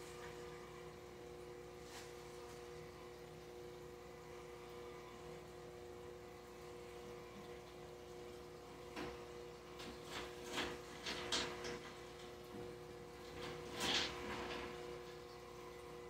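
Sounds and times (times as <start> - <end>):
aerator electric hum: 0.0 - 16.0.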